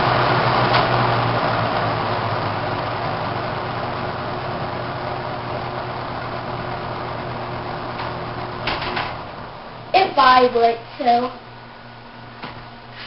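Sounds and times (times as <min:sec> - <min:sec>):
fan air rushing: 0:00.0 - 0:13.0
low motor hum: 0:00.0 - 0:13.0.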